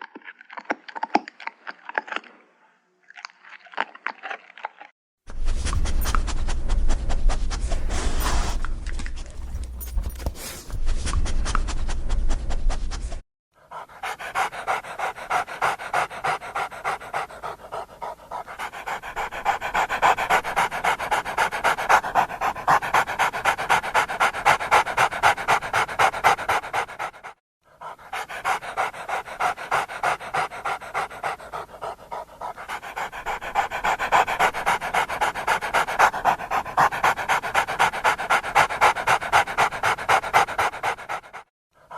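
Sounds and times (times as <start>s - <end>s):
dog panting rapidly: 5.4s - 41.9s.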